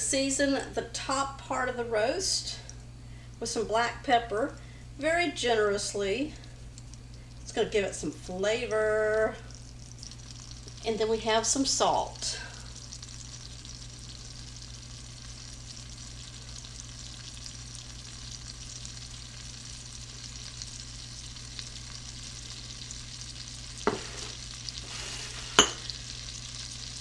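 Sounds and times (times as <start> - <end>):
low steady hum: 0.0 - 27.0
butter sizzling in a skillet: 5.0 - 27.0.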